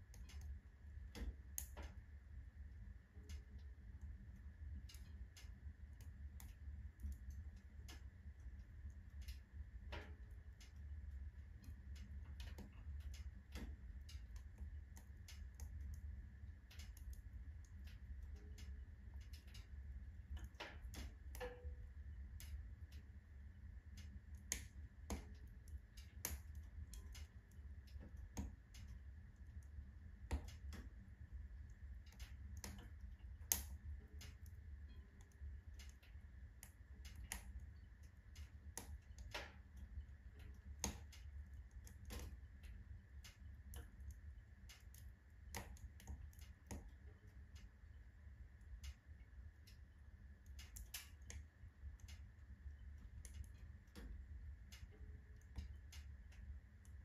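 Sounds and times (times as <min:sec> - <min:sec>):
firewood crackling and popping: 0:00.0 - 0:57.0
low steady rumble: 0:00.0 - 0:57.0.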